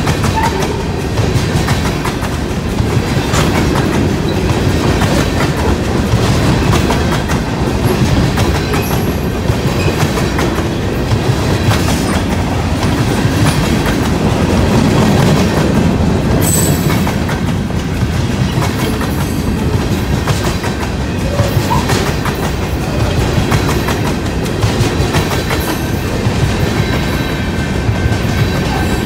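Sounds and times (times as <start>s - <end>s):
train wheels rumbling on rail: 0.0s - 29.0s
wheels clicking and clattering: 0.0s - 29.0s.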